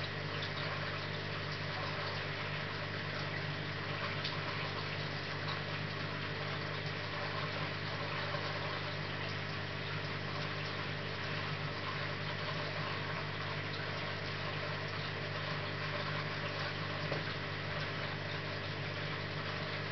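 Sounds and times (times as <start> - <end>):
aquarium pump humming: 0.0 - 19.9.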